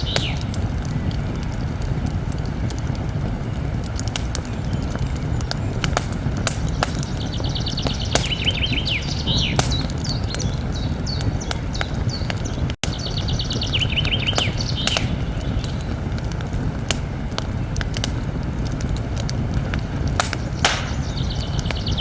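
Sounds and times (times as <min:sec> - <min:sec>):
songbird singing: 0:00.0 - 0:01.6, 0:02.4 - 0:18.3, 0:19.9 - 0:22.0
campfire crackling and popping: 0:00.0 - 0:22.0.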